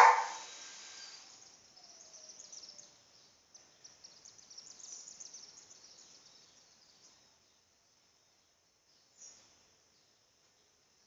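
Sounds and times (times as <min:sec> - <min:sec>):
faint high-pitched chirping: 0:00.0 - 0:10.8.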